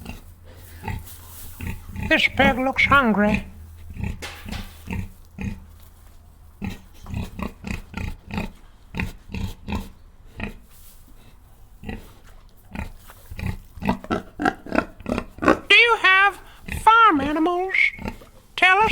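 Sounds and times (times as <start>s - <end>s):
pig grunting: 0.0s - 5.8s, 6.6s - 10.7s, 11.3s - 18.9s.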